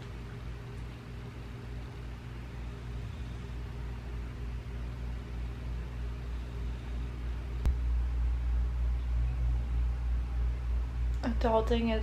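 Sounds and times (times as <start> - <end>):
low hum with faint hiss: 0.0 - 12.0.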